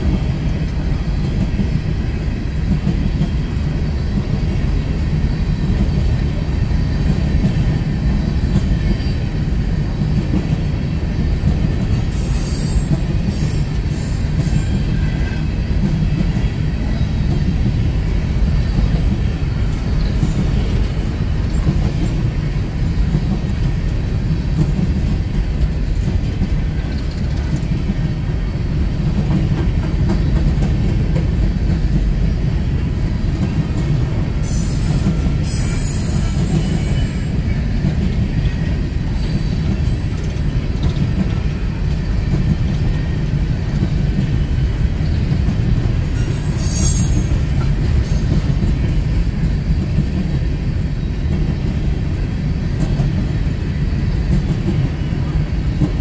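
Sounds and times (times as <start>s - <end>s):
train wheel squeals: 0.0s - 23.7s, 32.3s - 43.2s, 44.2s - 56.0s
train cars rumbling past: 0.0s - 56.0s.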